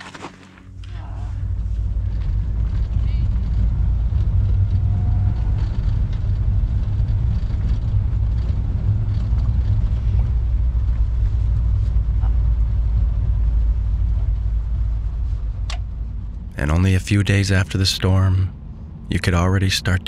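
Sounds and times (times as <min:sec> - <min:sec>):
engine and road rumble: 0:00.0 - 0:20.0
faint rattles: 0:00.4 - 0:16.6.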